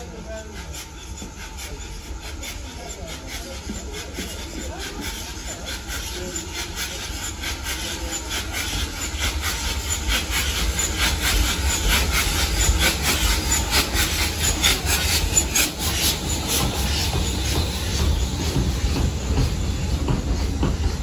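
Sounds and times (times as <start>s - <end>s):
steam hissing: 0.0s - 21.0s
steam locomotive rumble: 0.0s - 21.0s.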